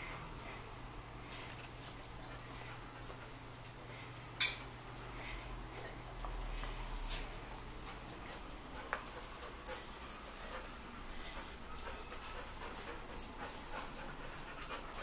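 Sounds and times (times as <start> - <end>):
light ticks and rustles: 0.0 - 15.0
dog sniffing and panting: 1.2 - 4.2, 5.0 - 15.0.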